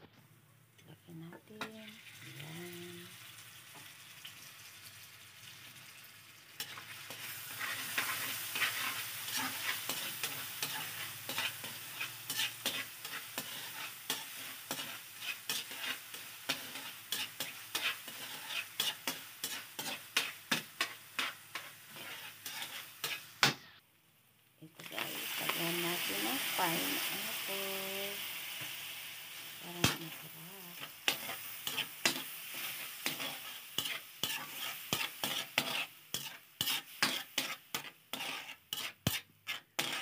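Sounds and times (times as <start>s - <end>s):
food sizzling in a pan: 0.8s - 40.0s.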